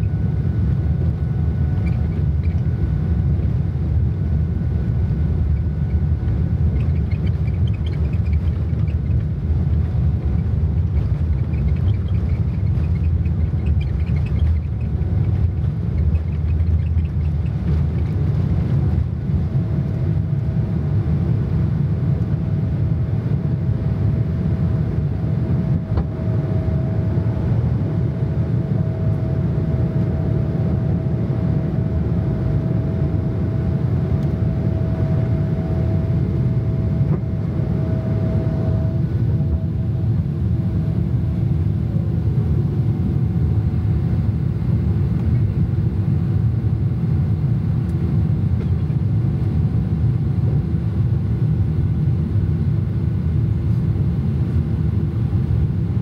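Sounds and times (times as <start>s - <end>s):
vehicle rumbling: 0.0s - 47.1s
thin steady whine: 0.0s - 56.0s.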